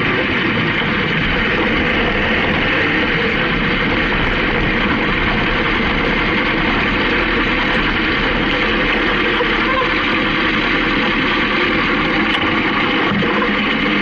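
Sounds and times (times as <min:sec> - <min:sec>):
motorcycle engine running: 0:00.0 - 0:14.0
wind rush: 0:00.0 - 0:14.0.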